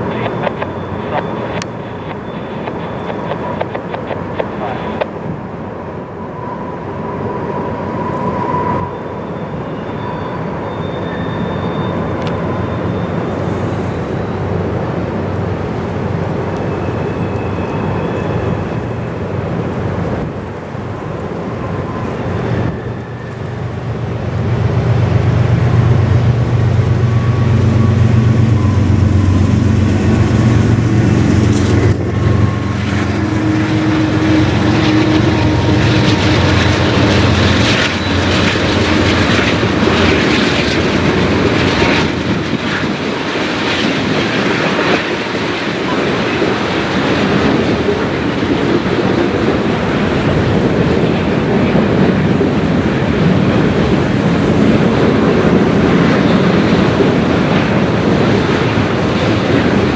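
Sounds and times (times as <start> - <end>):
diesel locomotives approaching: 0.0 - 59.9.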